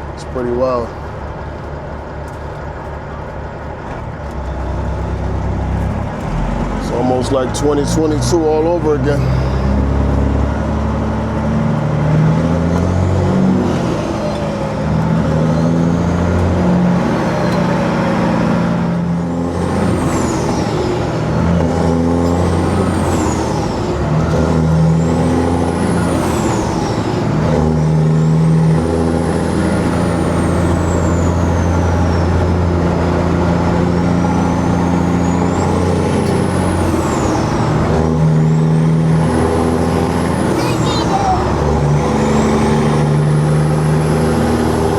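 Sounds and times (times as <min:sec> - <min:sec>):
diesel truck engine shifting gears: 0:00.0 - 0:44.9.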